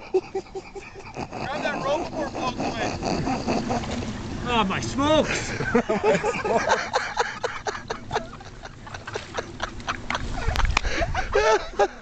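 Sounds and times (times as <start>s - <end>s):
people laughing hard: 0.0s - 4.2s, 5.1s - 12.0s
low rumble: 0.6s - 11.4s.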